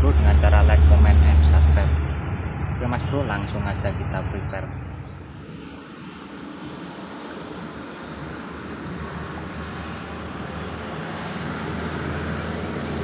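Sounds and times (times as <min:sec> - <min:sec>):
road traffic rumbling: 0:00.0 - 0:13.0.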